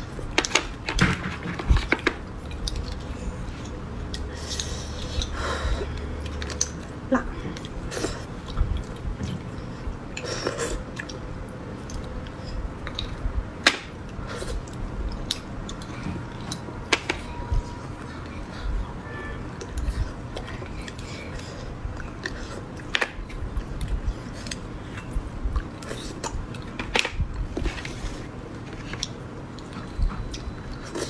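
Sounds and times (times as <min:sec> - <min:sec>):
low hum: 0:00.0 - 0:30.8.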